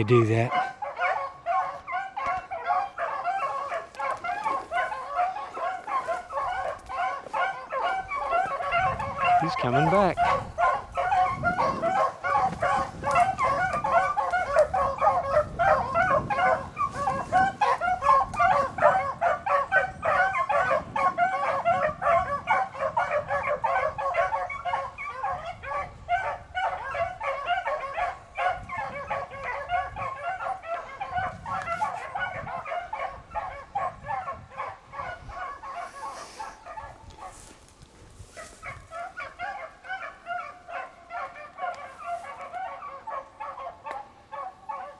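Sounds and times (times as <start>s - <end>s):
beagles baying: 0.0s - 37.6s, 38.2s - 44.9s.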